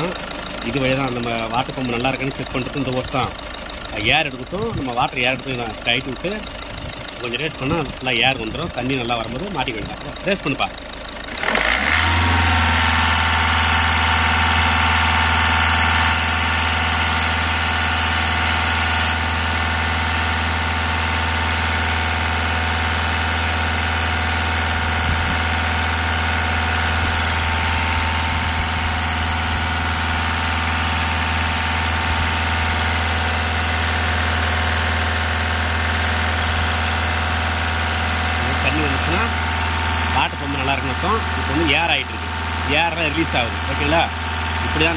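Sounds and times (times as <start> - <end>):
diesel engine revving: 0.0 - 44.9.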